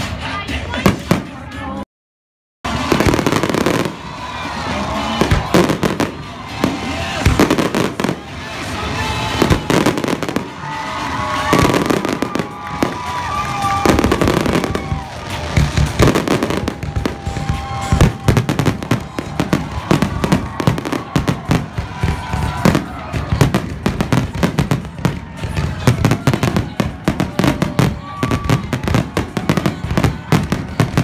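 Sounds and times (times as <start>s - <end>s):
fireworks crackling: 2.7s - 31.0s.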